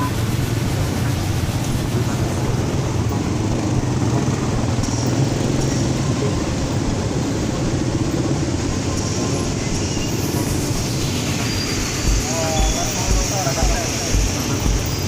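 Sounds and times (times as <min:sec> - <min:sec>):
constant rushing noise: 0:00.0 - 0:15.0
vehicle engine rumble: 0:00.0 - 0:15.0.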